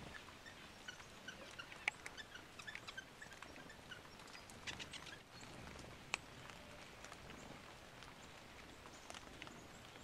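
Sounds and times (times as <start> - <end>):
dripping water ticks: 0.0 - 10.0
light rain: 0.0 - 10.0.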